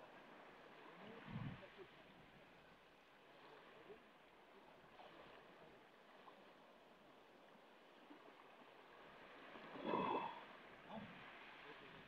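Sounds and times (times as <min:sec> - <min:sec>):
small waves washing over pebbles: 0:00.0 - 0:12.0.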